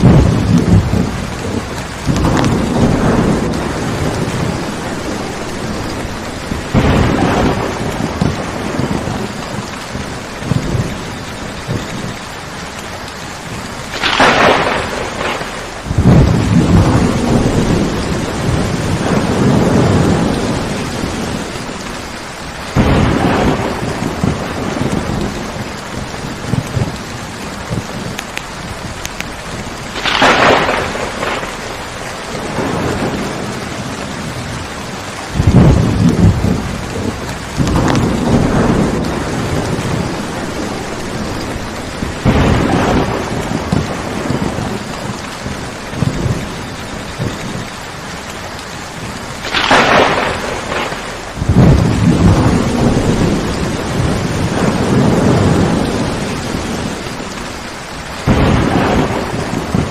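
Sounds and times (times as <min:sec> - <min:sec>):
thunder cracks: 0:00.0 - 0:12.2, 0:13.6 - 0:22.0, 0:22.7 - 0:47.8, 0:49.0 - 0:59.9
heavy rain: 0:00.0 - 0:59.9
low thunder rumble: 0:00.0 - 0:59.9.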